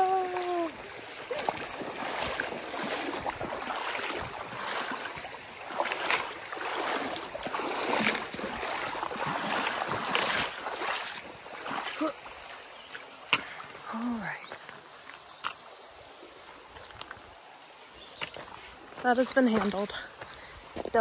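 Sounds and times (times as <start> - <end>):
shoes splashing through water: 0.0 - 15.7, 16.3 - 21.0
stream running: 0.0 - 21.0.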